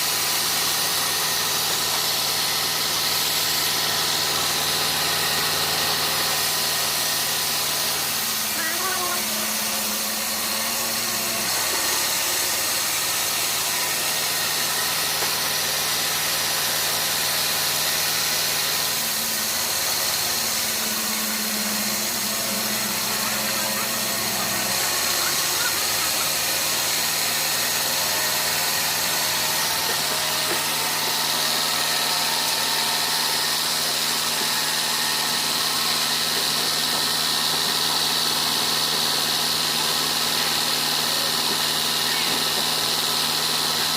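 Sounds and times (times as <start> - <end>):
sawmill machinery hum and hiss: 0.0 - 43.9.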